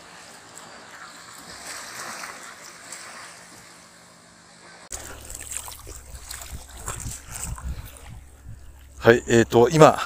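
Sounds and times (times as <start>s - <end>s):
small waves washing on beach: 0.0s - 10.0s.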